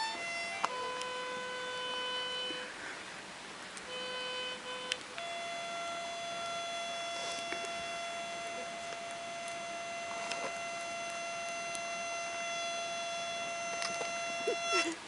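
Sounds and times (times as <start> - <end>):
slow music of long held notes: 0.0 - 15.0.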